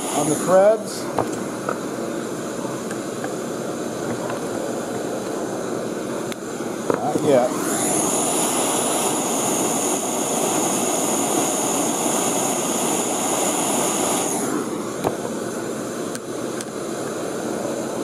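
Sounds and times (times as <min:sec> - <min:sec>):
gas torch hissing: 0:00.0 - 0:18.0.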